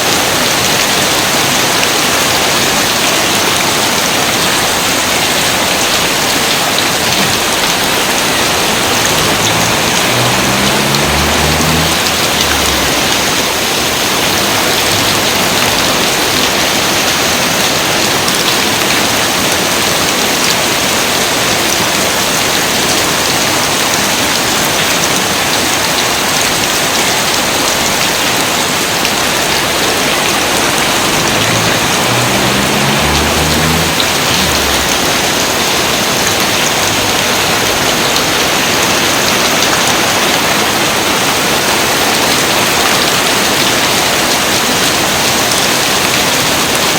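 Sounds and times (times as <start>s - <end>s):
rain hissing: 0.0s - 46.9s.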